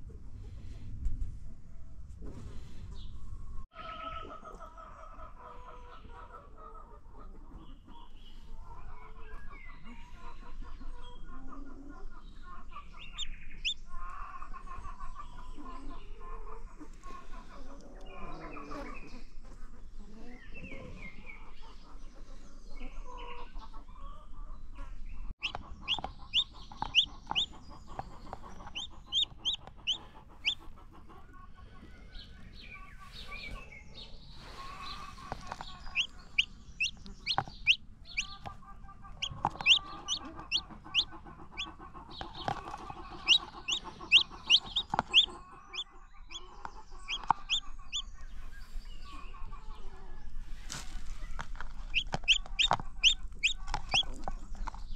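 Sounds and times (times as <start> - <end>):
chicks peeping: 3.8 - 54.9
hen clucking: 3.8 - 54.9.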